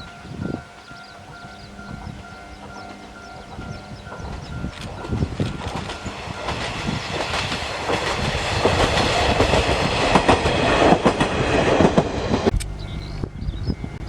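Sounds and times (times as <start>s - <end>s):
diesel railcar passing: 0.0s - 14.0s
wheels clacking over rail joints: 0.7s - 12.7s.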